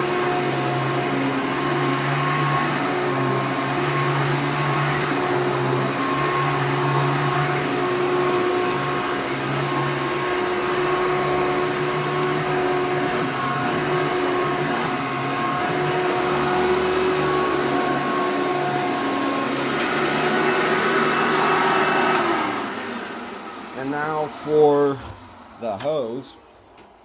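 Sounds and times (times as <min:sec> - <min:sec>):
vacuum motor winding down: 0:00.0 - 0:24.4
vacuum cleaner running: 0:00.0 - 0:27.0.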